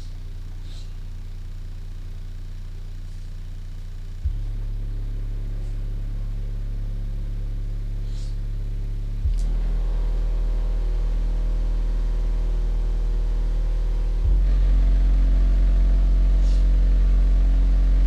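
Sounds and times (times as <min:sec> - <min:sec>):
low bass test tone: 0:00.0 - 0:18.0.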